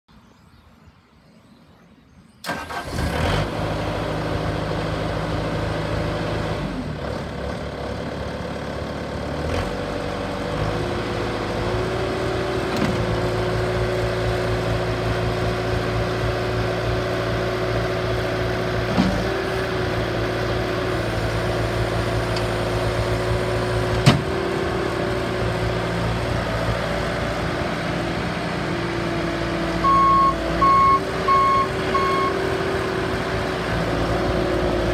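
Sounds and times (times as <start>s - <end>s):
diesel engine starting and running: 2.3s - 34.9s.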